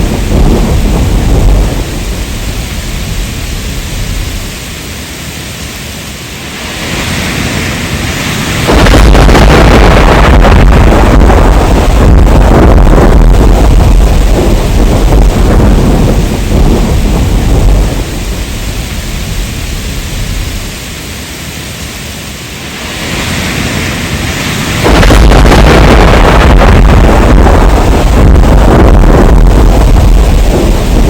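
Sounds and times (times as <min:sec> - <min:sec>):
rolling thunder: 0:00.0 - 0:04.8, 0:06.4 - 0:21.0, 0:22.6 - 0:31.0
heavy rain: 0:00.0 - 0:31.0.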